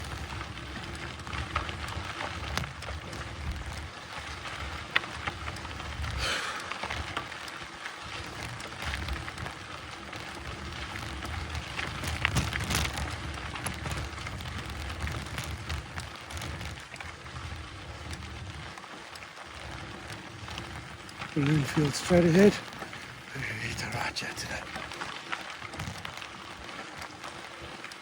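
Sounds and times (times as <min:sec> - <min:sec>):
bike tyres rolling on dirt: 0:00.0 - 0:28.0
small clicks and rattles: 0:00.0 - 0:28.0.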